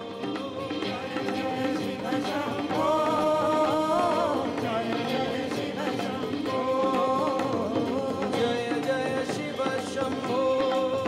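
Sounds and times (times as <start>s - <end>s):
instrumental accompaniment: 0.0s - 11.0s
person singing long bending notes: 0.0s - 11.0s.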